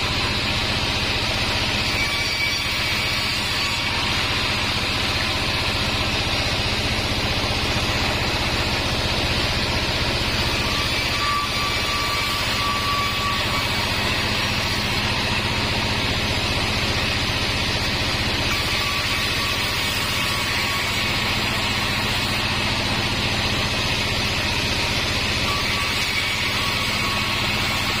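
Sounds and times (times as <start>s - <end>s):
sawmill machine drone: 0.0s - 28.0s.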